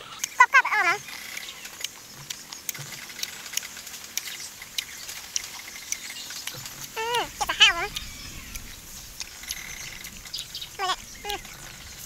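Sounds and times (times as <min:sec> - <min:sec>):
crisp clicks and crunches of eating: 0:00.1 - 0:12.0.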